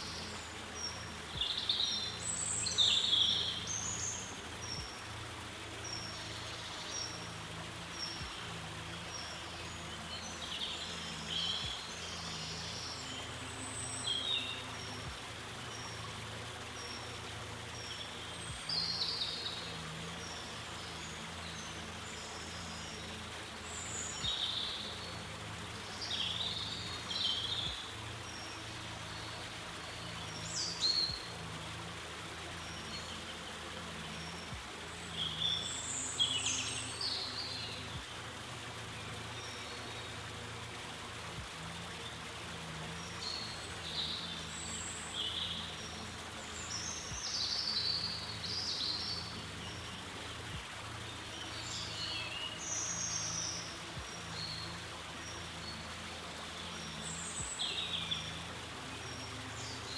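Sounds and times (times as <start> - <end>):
background hiss: 0.0 - 59.9
songbirds chirping: 0.0 - 59.9.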